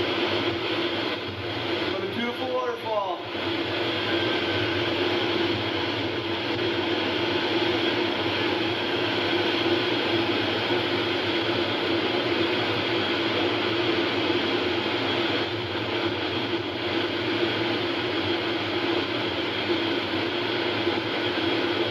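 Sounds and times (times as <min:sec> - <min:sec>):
helicopter droning: 0:00.0 - 0:21.9.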